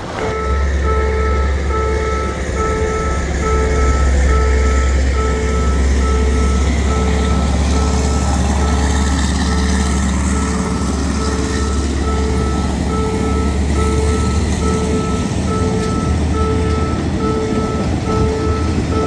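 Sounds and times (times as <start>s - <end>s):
passing train rumble: 0.0s - 19.0s
level-crossing alarm beeping: 0.1s - 19.0s.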